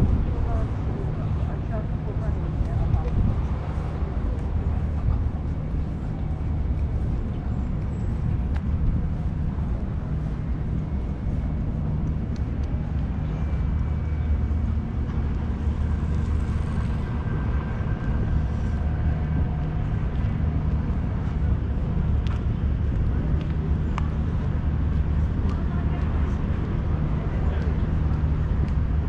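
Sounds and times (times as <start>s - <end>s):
city street ambience: 0.0s - 29.0s
vehicle engine droning: 0.0s - 29.0s.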